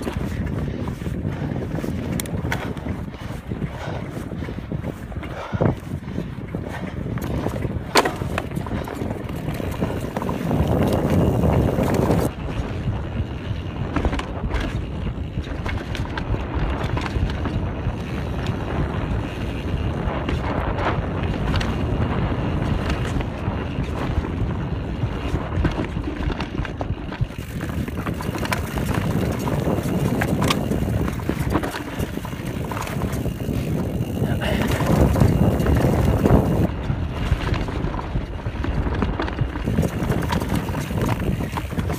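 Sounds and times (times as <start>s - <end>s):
bike clattering over rough ground: 0.0s - 41.9s
wind and tyre noise: 0.0s - 41.9s.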